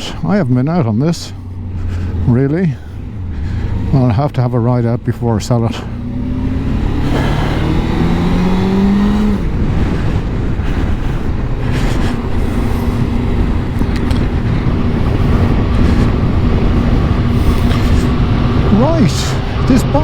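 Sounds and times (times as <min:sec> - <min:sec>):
motorcycle engine accelerating: 0:00.0 - 0:20.0
wind noise: 0:00.0 - 0:20.0.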